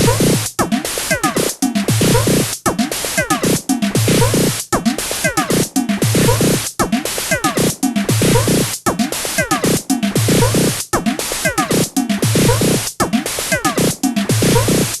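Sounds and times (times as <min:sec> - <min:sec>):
drum machine electronic beat: 0:00.0 - 0:15.0.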